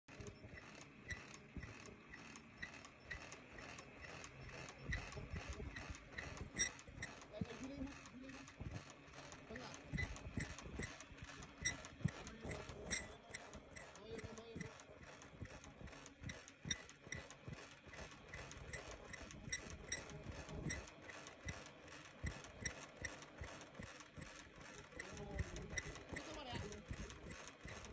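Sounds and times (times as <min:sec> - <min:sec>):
regular machine clicks: 0:00.1 - 0:27.9.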